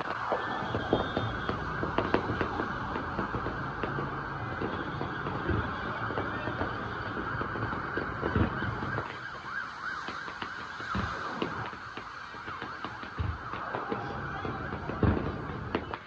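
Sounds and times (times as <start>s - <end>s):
distant fireworks bangs and crackles: 0.0s - 16.0s
siren-like wail: 0.0s - 16.0s.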